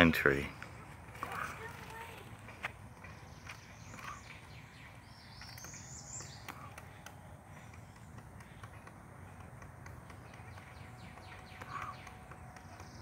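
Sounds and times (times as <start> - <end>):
woodpeckers tapping on bark: 0.0 - 13.0.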